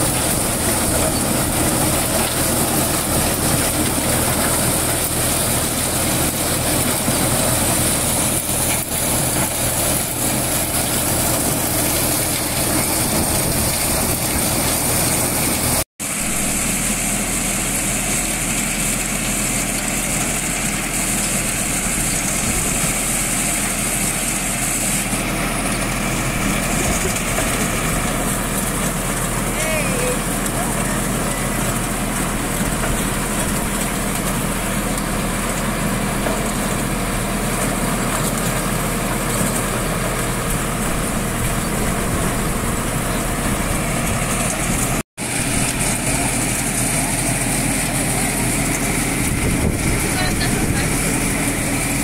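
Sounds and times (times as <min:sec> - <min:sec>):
corn thresher running: 0:00.0 - 0:52.0.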